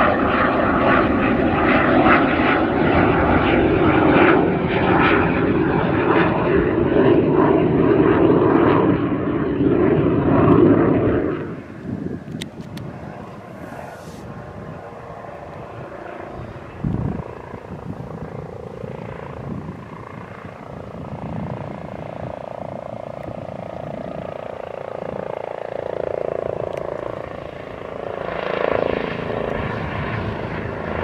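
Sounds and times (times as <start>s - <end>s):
helicopter rotor and turbine: 0.0s - 31.0s
steady whine: 0.0s - 31.0s.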